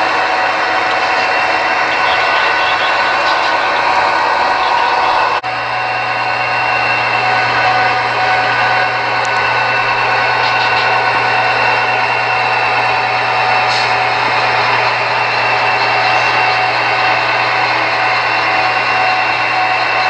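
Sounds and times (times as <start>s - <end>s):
model train running: 0.0s - 20.0s
steady whine: 0.0s - 20.0s.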